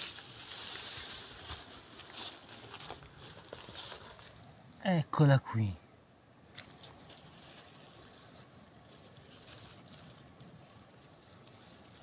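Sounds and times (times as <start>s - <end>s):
grass and dry leaves rustling: 0.0s - 4.9s, 6.4s - 12.0s.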